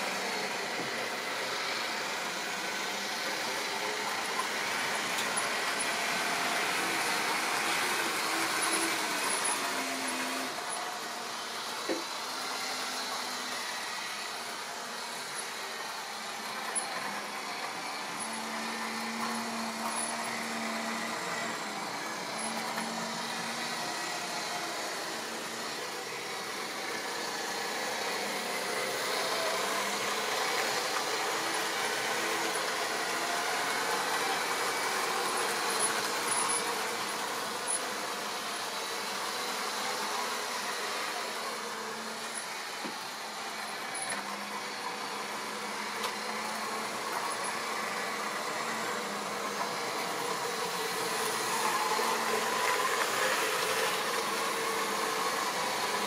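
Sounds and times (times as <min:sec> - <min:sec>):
model train motor whirring: 0:00.0 - 0:56.0.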